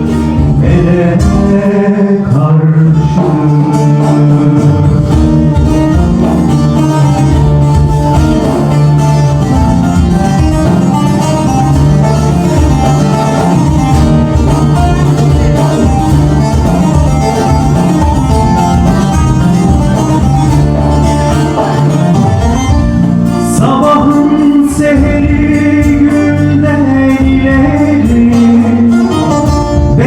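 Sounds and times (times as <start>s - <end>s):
live band playing instrumental: 0.0s - 30.0s.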